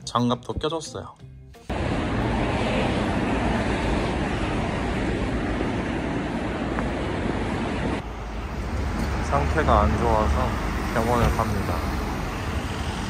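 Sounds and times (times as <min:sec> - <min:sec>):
city street traffic: 0:01.3 - 0:13.0.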